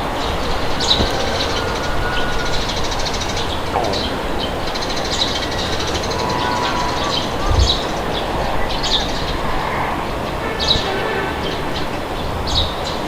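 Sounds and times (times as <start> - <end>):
birds chirping: 0.0 - 13.0
steady wind rumble: 0.0 - 13.0.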